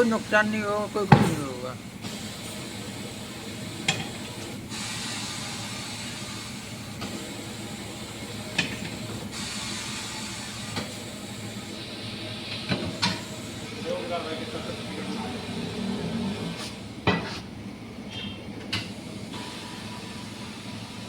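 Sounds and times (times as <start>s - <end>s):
tyre-changing machine hissing: 0.0s - 17.6s, 18.7s - 21.0s.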